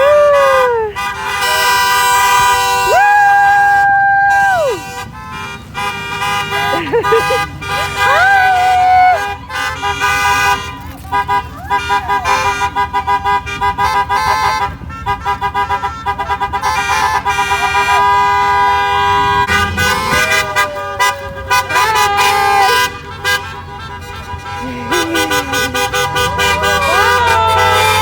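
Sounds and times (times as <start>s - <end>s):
car horns honking: 0.3s - 28.0s.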